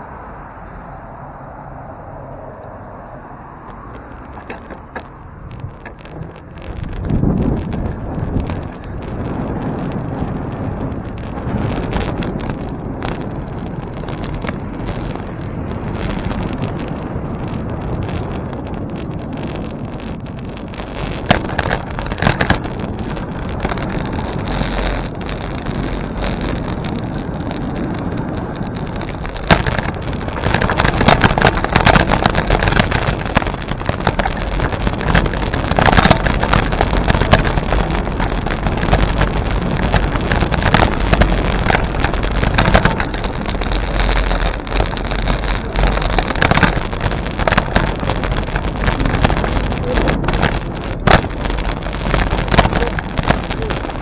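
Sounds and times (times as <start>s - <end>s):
sharp crackles: 0.0s - 54.0s
wind buffeting microphone: 0.0s - 54.0s.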